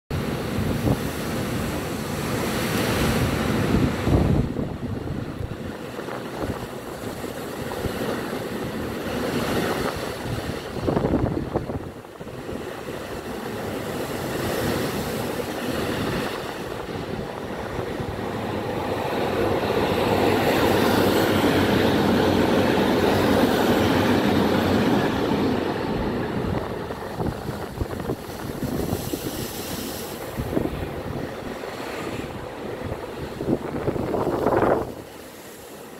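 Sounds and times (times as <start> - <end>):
wind on microphone: 0.1 - 35.9
diesel train passing: 0.2 - 35.9.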